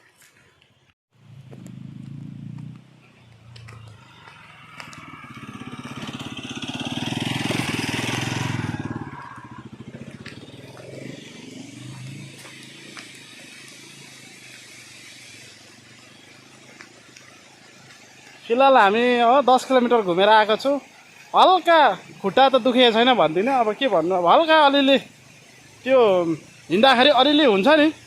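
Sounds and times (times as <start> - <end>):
motor vehicle passing: 1.2 - 28.0.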